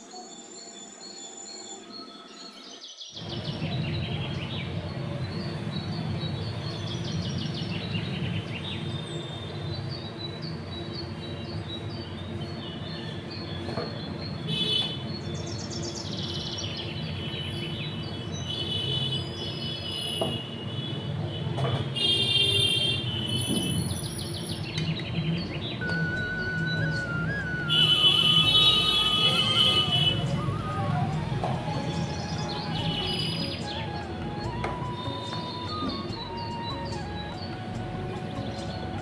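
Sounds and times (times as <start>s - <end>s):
birds chirping and trilling: 0.0s - 20.8s, 22.0s - 39.0s.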